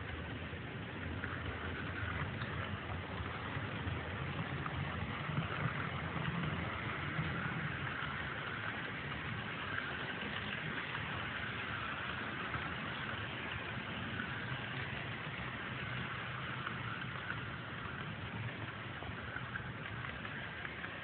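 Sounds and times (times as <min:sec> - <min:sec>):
model locomotive motor: 0:00.0 - 0:21.0
model train rolling on rails: 0:00.0 - 0:21.0.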